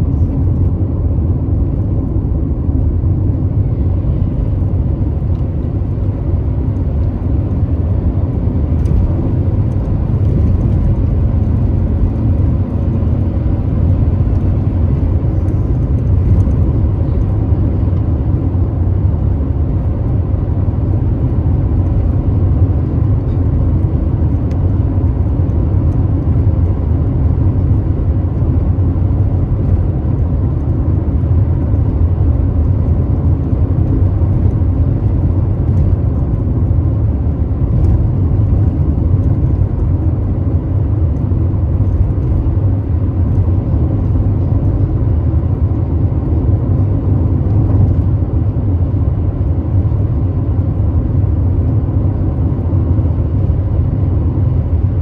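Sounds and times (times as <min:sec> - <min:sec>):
car interior road noise: 0:00.0 - 0:55.0.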